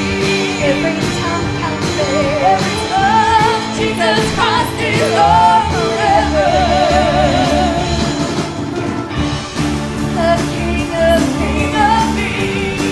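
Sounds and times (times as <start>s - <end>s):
band with bass and drums: 0.0s - 12.9s.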